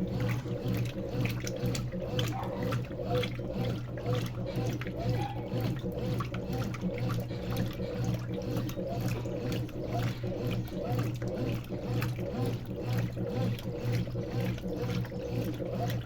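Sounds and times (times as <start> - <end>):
washing machine humming: 0.0 - 16.0
water sloshing and trickling: 0.0 - 16.0.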